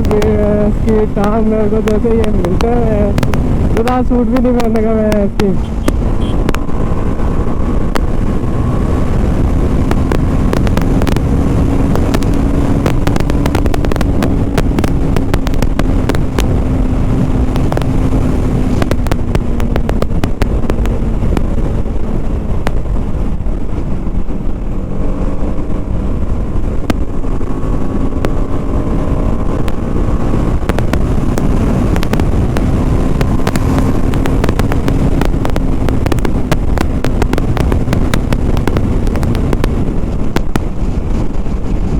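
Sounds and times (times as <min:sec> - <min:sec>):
motorcycle engine running: 0:00.0 - 0:41.9
wind rumble on microphone: 0:00.0 - 0:41.9.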